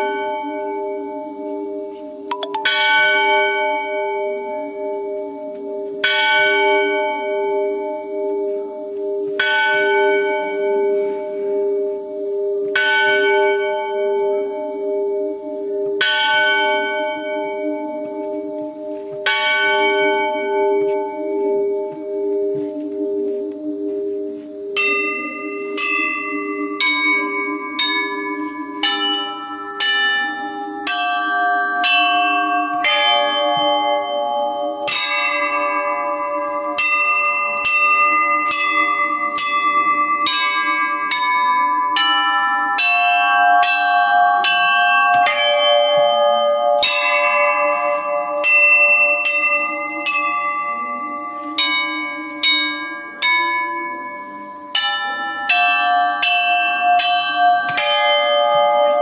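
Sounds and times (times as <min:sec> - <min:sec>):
church bells ringing: 0:00.0 - 0:59.0
low bell tone humming: 0:00.0 - 0:59.0.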